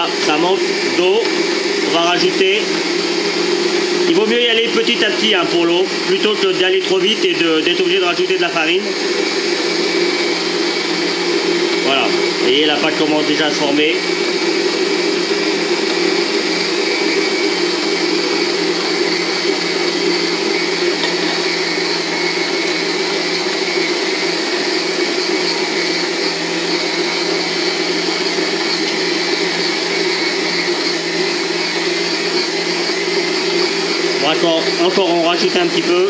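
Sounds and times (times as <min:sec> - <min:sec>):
electric stand mixer running: 0:00.0 - 0:36.0.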